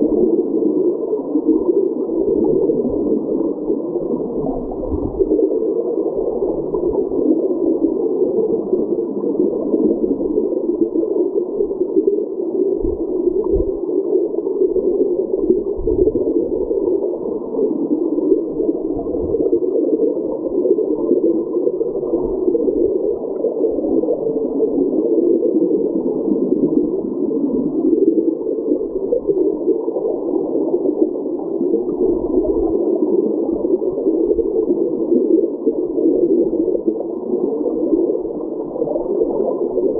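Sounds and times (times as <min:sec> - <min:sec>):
underwater creek current rushing: 0:00.0 - 0:39.9.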